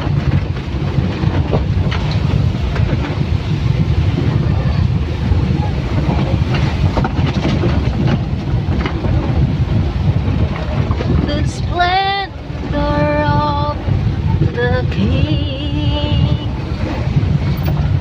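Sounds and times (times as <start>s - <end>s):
clattering and knocks: 0.0s - 18.0s
vehicle cabin rumble: 0.0s - 18.0s.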